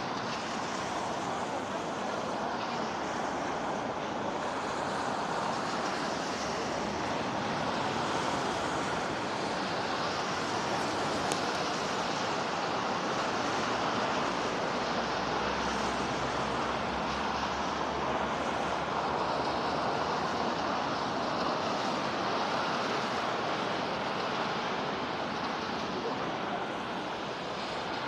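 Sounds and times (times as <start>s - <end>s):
street traffic rushing: 0.0s - 28.0s.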